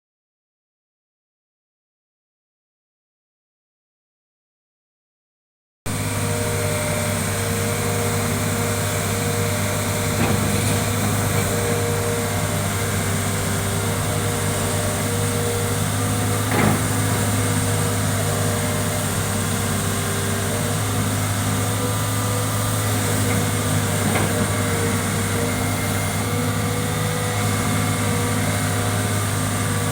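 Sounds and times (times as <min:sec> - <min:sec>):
excavator diesel engine running: 0:05.9 - 0:29.9.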